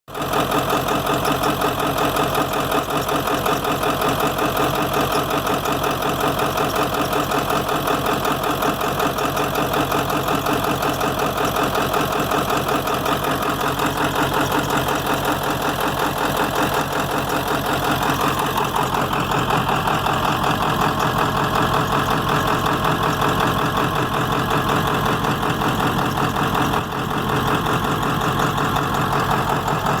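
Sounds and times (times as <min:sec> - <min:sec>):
diesel engine idling roughly: 0:00.1 - 0:30.0.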